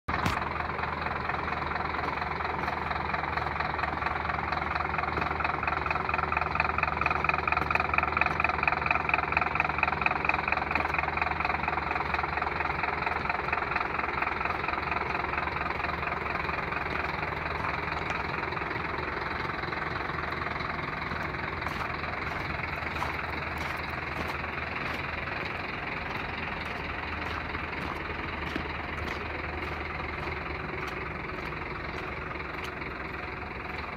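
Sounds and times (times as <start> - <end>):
diesel truck engine idling: 0.1 - 33.9.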